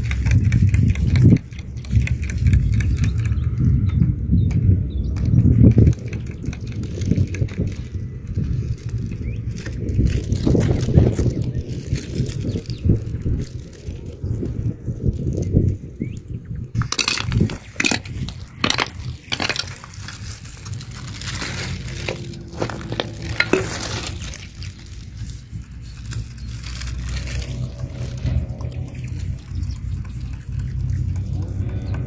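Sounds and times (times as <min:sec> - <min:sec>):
steady low rumble: 0:03.4 - 0:32.0
pebbles clicking and crunching: 0:05.1 - 0:15.8, 0:16.8 - 0:32.0.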